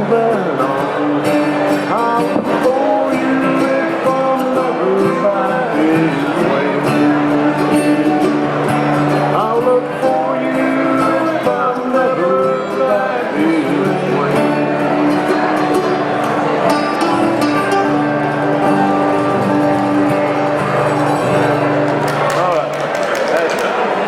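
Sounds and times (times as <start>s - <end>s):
men singing folk song: 0.0s - 20.6s
strummed acoustic guitars: 0.0s - 22.5s.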